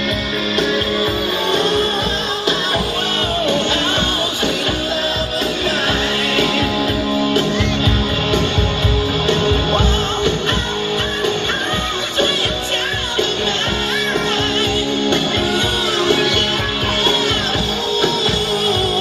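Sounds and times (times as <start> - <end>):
music with guitar and singing: 0.0 - 19.0.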